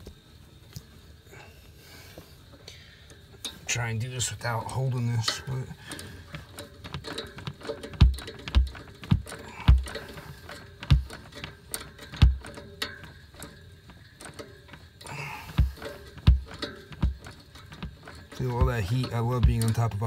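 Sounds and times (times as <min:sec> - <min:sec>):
pipe wrench clanking on radiator: 0:03.4 - 0:20.0.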